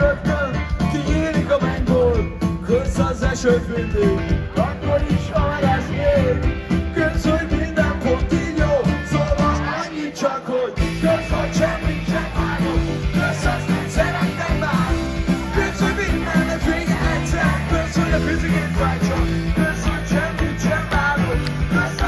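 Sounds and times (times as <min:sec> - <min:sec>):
live rock band with singer: 0:00.0 - 0:22.0.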